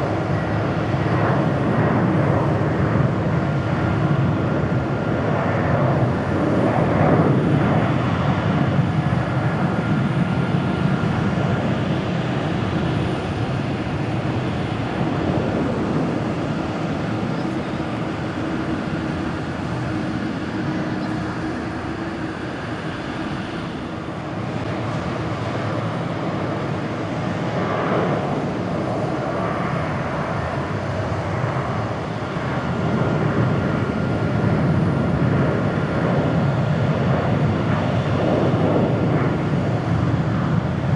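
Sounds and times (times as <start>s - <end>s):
jet engines at takeoff: 0.0s - 40.9s.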